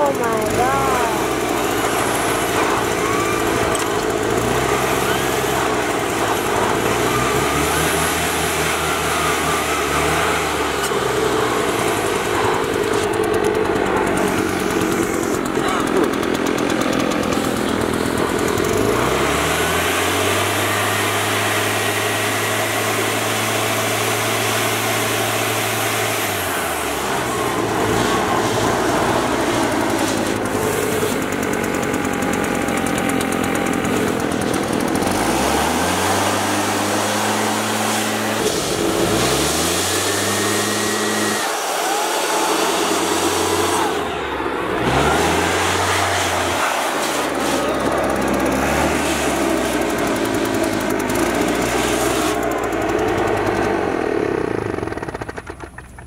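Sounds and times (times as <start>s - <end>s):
leaf blower engine revving: 0.0s - 56.0s.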